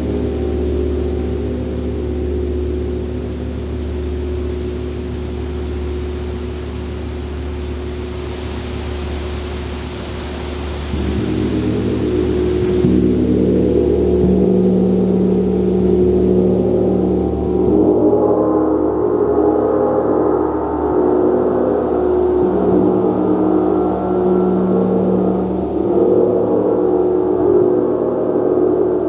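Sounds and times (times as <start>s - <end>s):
gong sounding: 0.0s - 27.8s.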